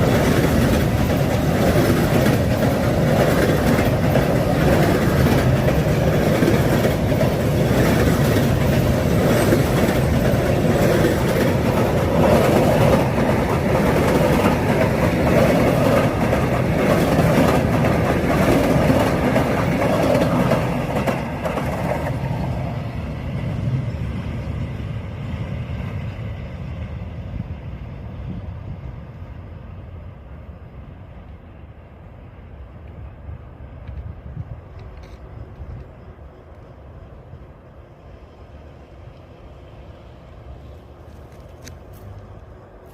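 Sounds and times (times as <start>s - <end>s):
train wagons rolling on rails: 0.0s - 42.9s.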